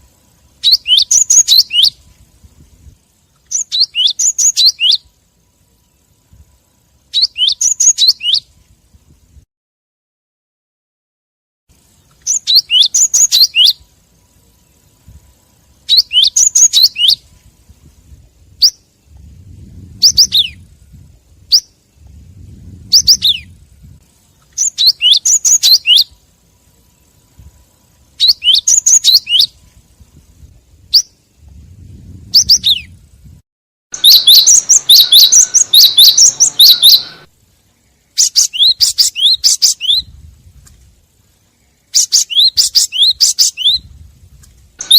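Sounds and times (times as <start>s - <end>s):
bird rapid high chirps: 0.0s - 8.6s, 11.8s - 29.8s, 30.8s - 33.0s, 34.0s - 40.2s, 41.4s - 43.9s.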